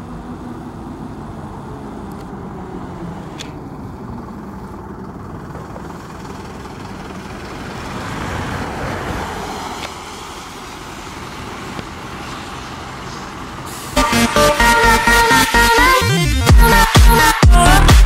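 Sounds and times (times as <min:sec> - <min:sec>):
fire engines driving past: 0:00.0 - 0:16.8
tyres on wet road: 0:00.0 - 0:16.8.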